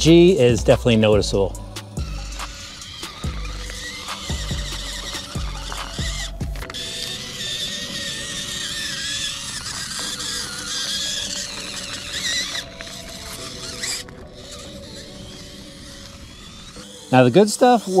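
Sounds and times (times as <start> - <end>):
background music: 0.0 - 18.0
toy car electric motor whining: 0.0 - 18.0.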